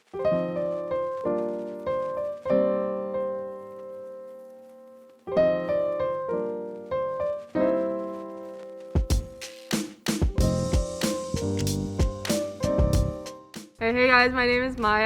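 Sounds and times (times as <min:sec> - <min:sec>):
piano chords ringing: 0:00.0 - 0:09.5, 0:10.3 - 0:13.7.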